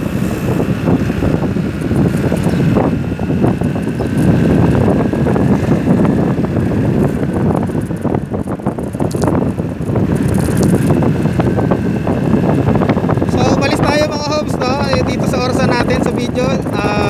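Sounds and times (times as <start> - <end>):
scooter engine running: 0.0 - 17.0
wind rushing over microphone: 0.0 - 17.0.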